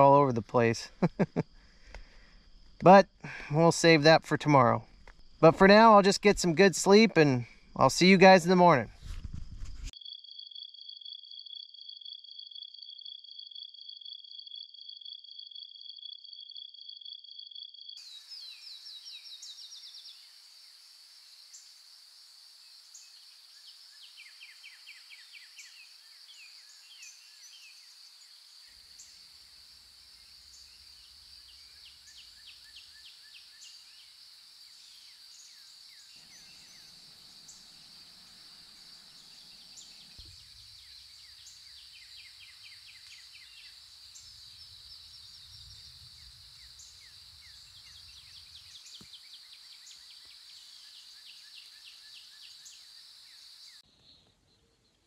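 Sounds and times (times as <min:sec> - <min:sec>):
crickets trilling: 0:00.0 - 0:09.1, 0:09.8 - 0:53.8
insects chirping: 0:00.0 - 0:55.0.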